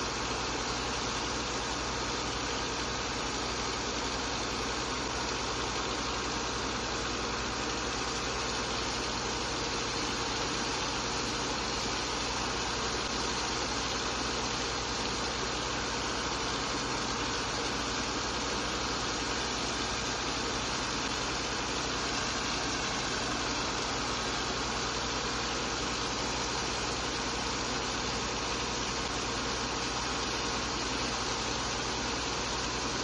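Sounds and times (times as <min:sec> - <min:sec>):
pump engine running: 0:00.0 - 0:33.0
water jet spraying onto sand: 0:00.1 - 0:33.0.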